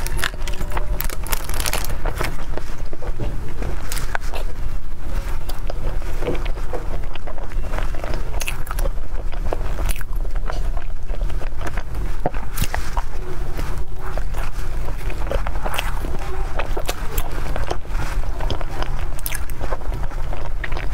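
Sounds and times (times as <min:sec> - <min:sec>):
biting and chewing bun: 0:00.0 - 0:20.9.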